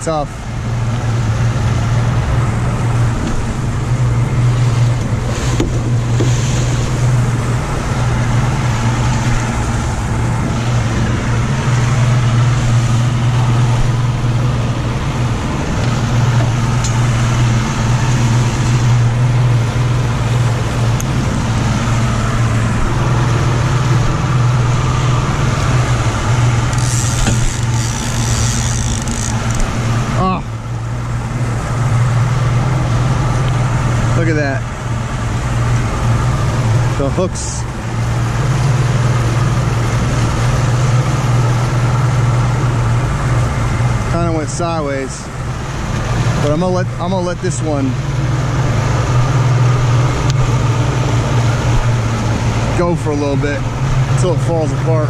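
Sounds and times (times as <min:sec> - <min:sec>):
outboard motor droning: 0:00.0 - 0:55.0
wake water churning: 0:00.0 - 0:55.0.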